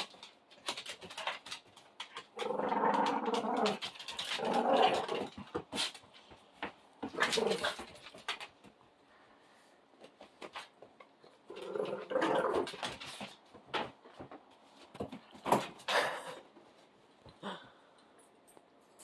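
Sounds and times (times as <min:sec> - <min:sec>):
dogs scuffling: 0:00.0 - 0:17.3.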